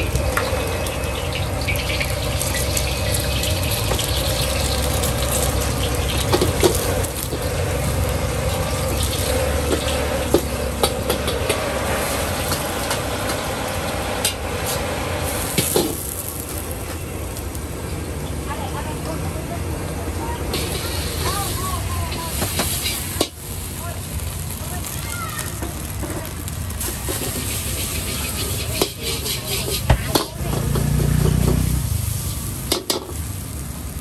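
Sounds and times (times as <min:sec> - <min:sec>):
food sizzling: 0:00.0 - 0:34.0.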